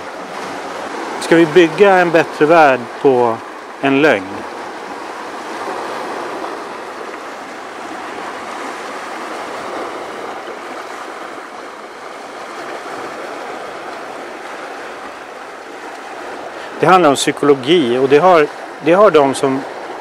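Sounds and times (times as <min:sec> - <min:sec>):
waves breaking on rocky shore: 0:00.0 - 0:20.0.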